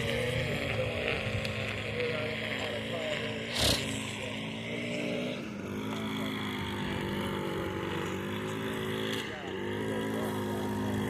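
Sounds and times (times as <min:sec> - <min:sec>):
small petrol engine running: 0:00.0 - 0:11.0.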